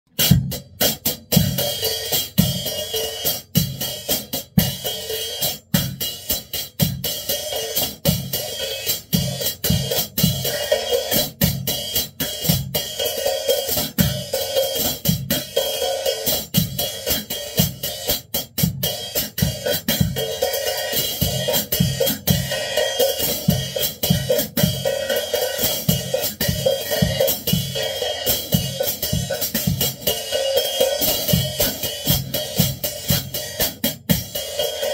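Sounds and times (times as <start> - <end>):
drum kit beat: 0.0 - 34.9.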